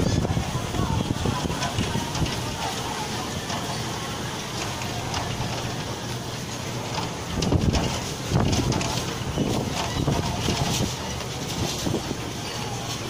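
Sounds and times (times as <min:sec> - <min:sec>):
heavy rain hiss: 0:00.0 - 0:13.0
street traffic: 0:00.0 - 0:13.0
strong wind buffeting microphone: 0:00.0 - 0:13.0.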